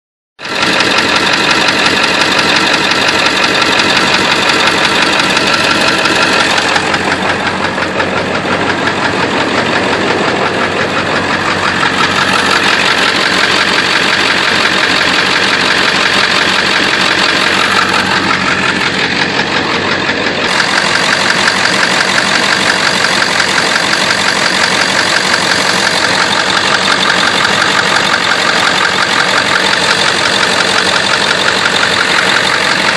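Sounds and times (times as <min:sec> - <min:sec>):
engine idling: 0:00.4 - 0:32.9
fast steady tapping: 0:00.4 - 0:32.9.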